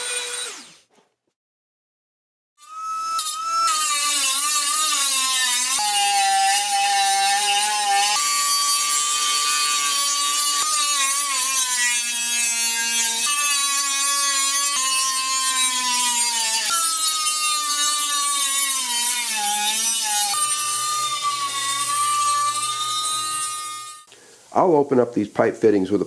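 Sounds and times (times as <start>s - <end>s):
rotary grinder whining on metal: 0.0s - 0.9s, 2.6s - 24.1s.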